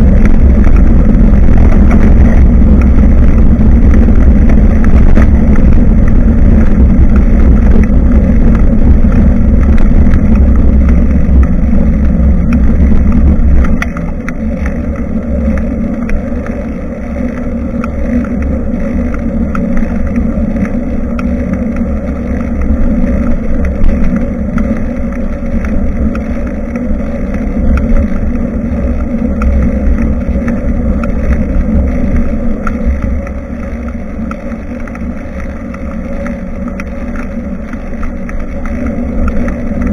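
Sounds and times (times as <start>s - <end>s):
faint ticks and rattles: 0.0s - 39.9s
wind rumbling on microphone: 0.0s - 39.9s.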